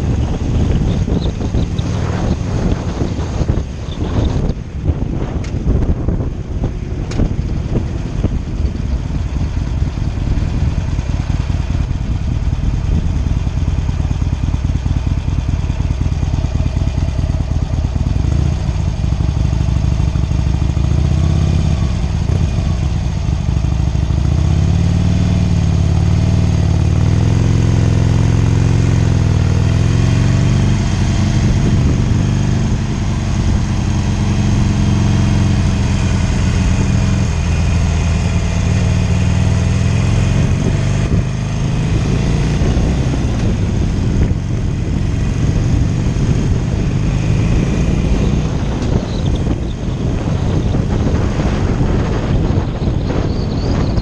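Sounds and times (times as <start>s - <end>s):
wind buffeting microphone: 0.0s - 26.2s, 28.9s - 54.0s
motorcycle engine running: 0.0s - 54.0s.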